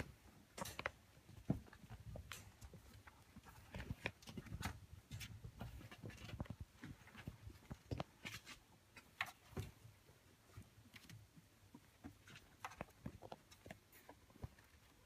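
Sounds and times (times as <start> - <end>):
kittens pawing at wire pen: 0.0 - 15.0.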